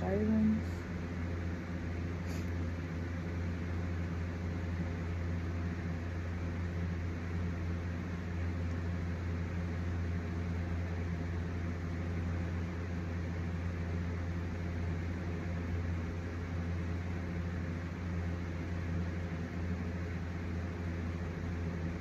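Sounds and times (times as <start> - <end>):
motor humming with hiss: 0.0 - 22.0.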